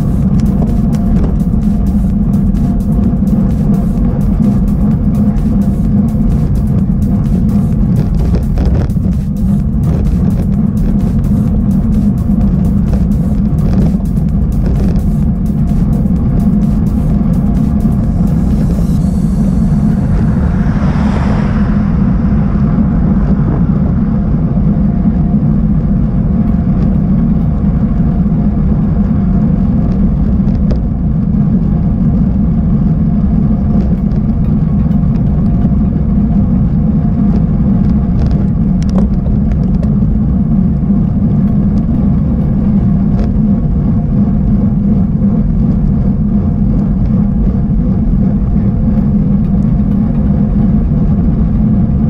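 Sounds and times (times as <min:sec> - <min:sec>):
wind and bicycle tyre rumble: 0:00.0 - 0:52.0.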